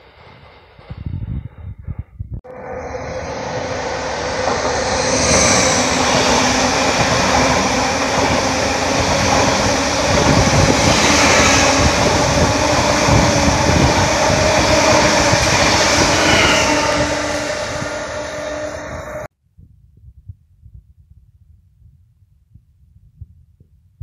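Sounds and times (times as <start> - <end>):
train rushing past on rails: 0.0 - 19.3.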